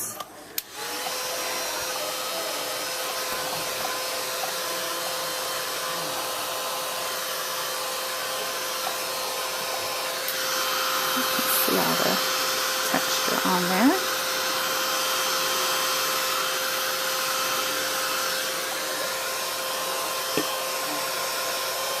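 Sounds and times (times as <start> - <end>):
hot-air blower running: 0.0 - 22.0.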